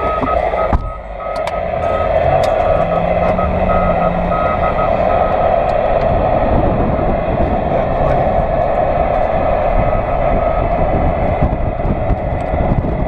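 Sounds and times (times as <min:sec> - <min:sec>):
faint beeping tone: 0:00.0 - 0:12.0
vehicle driving hum: 0:00.0 - 0:13.0.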